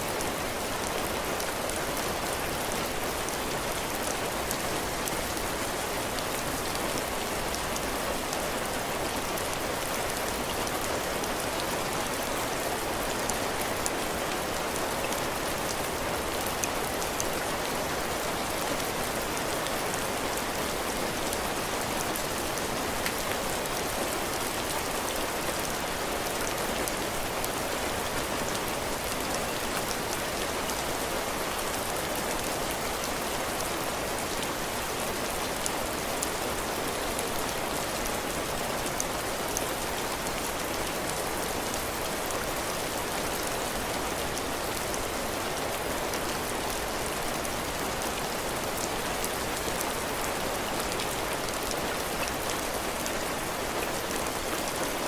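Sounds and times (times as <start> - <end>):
heavy rain pattering on roof: 0.0 - 55.0.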